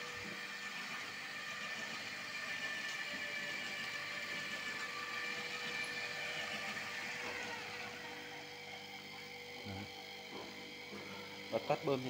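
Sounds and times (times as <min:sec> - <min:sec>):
electric hose reel motor whining: 0:00.0 - 0:12.0.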